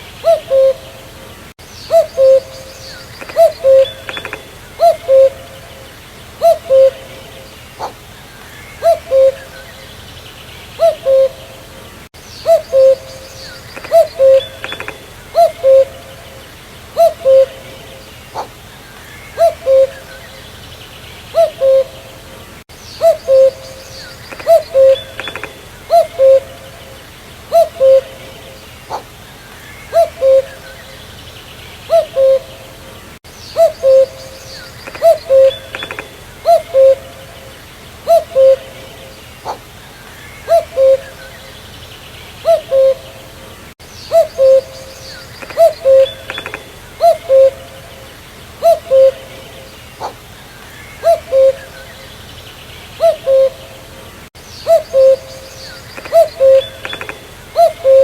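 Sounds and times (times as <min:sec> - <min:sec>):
cuckoo calling: 0:00.0 - 0:10.0, 0:10.8 - 0:20.6, 0:21.3 - 0:31.1, 0:31.9 - 0:41.7, 0:42.4 - 0:52.2, 0:53.0 - 0:58.0
faint bird chirps: 0:00.0 - 0:22.2, 0:22.8 - 0:43.2, 0:43.8 - 0:53.8, 0:54.4 - 0:58.0.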